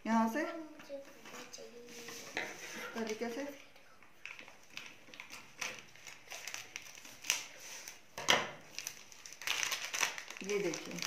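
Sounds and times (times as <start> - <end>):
plastic crinkling: 0.9 - 11.0.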